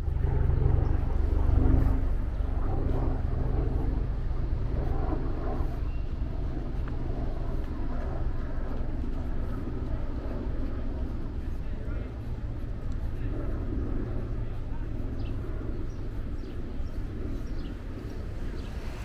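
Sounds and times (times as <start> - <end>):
distant voices murmuring: 0.0 - 19.0
low rumble: 0.0 - 19.0.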